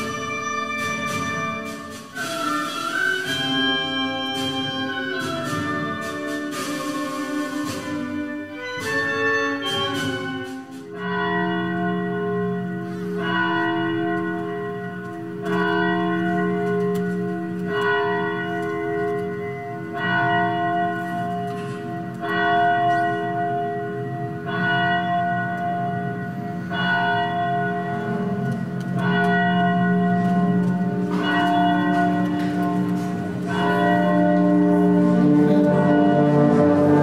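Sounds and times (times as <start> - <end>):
bell tolling slowly: 0.0 - 2.8, 3.5 - 37.0.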